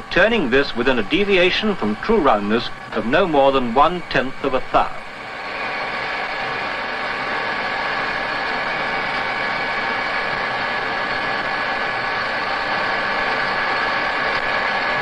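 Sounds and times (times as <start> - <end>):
lathe running: 0.0 - 15.0
steady machine whine: 0.0 - 15.0.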